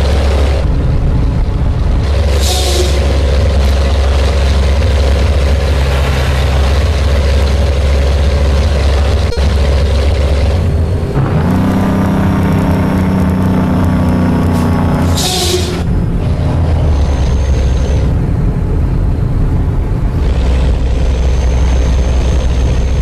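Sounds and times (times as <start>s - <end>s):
truck diesel engine running: 0.0s - 23.0s.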